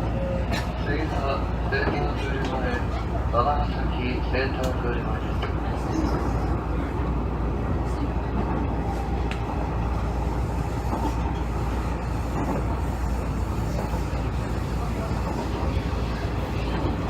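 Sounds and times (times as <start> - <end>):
low drone of train car: 0.0 - 17.0
train wheels rumbling on rails: 0.0 - 17.0.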